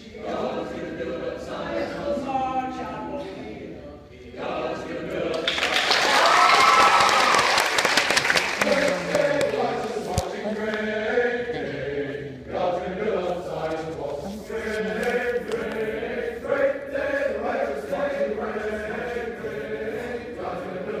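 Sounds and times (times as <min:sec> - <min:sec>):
group of people singing: 0:00.0 - 0:06.1, 0:08.5 - 0:21.0.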